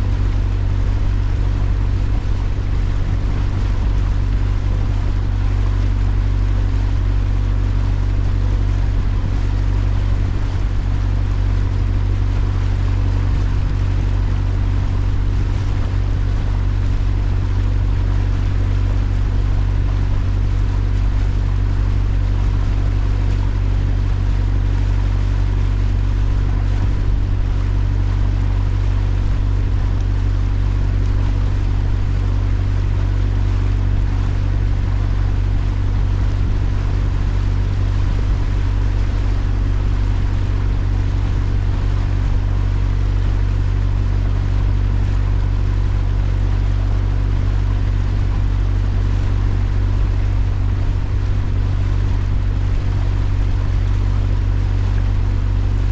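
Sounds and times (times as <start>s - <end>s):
boat engine humming: 0.0s - 55.9s.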